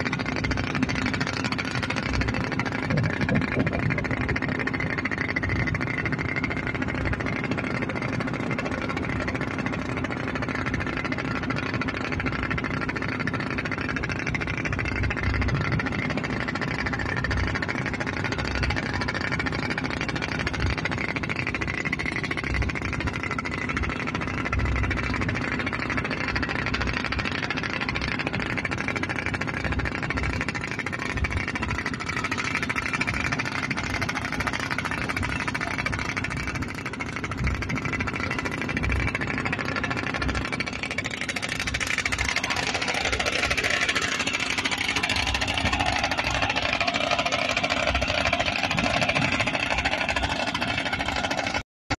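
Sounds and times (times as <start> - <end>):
water noise: 0.0 - 51.6
wind: 0.0 - 51.6
boat engine running: 0.0 - 51.7.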